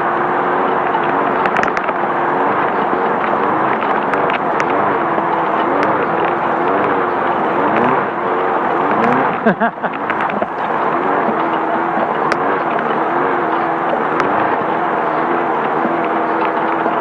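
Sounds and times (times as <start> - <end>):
race car engine revving: 0.0 - 17.0
rattles and knocks: 0.7 - 17.0.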